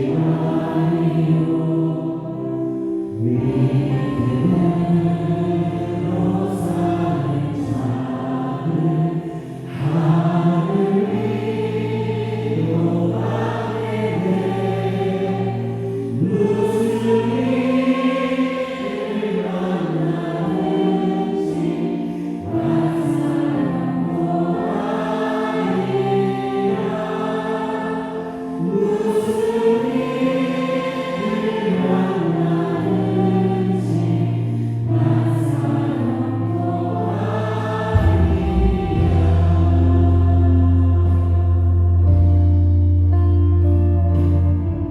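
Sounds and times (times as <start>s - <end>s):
group singing praise song: 0.0s - 42.3s.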